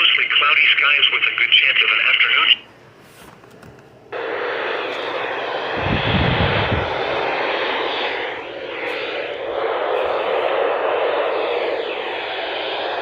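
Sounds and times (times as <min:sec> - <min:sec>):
radio static hiss: 0:00.0 - 0:02.7, 0:04.1 - 0:13.0.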